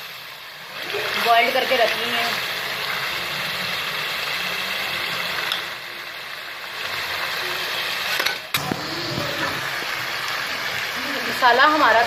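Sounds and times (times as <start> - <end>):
curry sizzling in a pot: 0.0 - 12.0.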